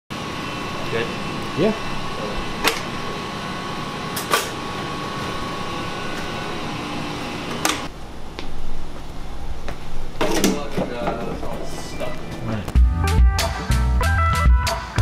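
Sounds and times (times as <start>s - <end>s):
machine fans humming: 0.1s - 14.2s.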